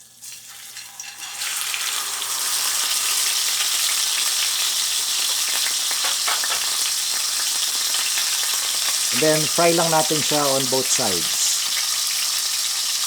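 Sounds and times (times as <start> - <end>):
fish sizzling in frying oil: 0.0 - 13.0.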